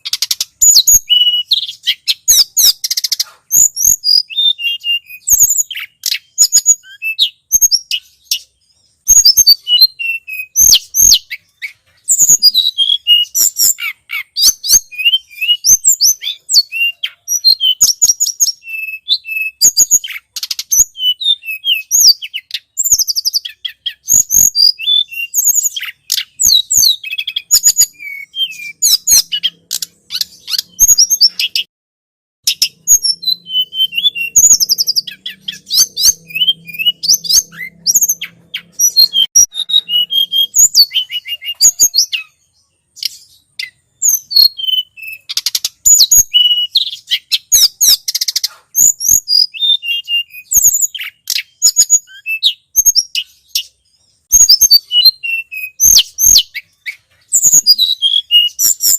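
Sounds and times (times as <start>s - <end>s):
songbird chirps and trills: 0.0s - 31.7s, 32.4s - 58.9s.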